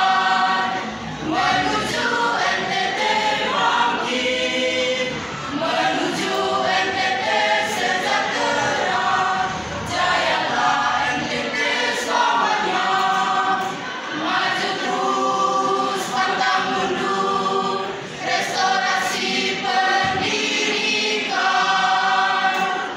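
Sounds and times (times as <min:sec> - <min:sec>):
choir singing a march song: 0:00.0 - 0:22.9.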